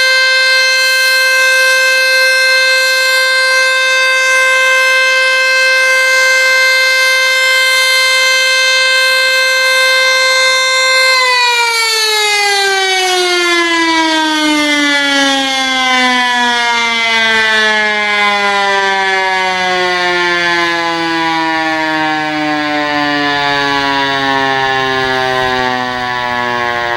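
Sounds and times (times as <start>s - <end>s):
warning siren: 0.0s - 26.9s.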